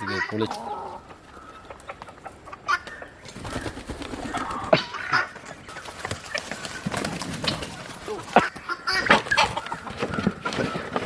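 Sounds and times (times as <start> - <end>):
chicken calls: 0.0 - 11.0
chickens clucking: 0.0 - 11.0.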